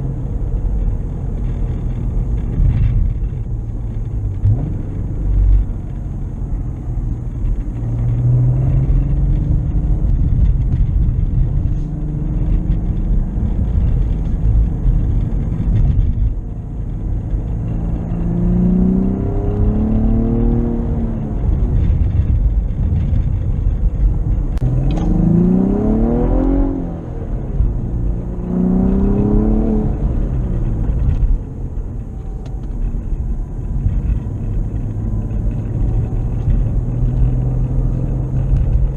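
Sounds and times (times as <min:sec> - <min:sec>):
car engine drone revving: 0:00.0 - 0:38.9
road rumble: 0:00.0 - 0:38.9.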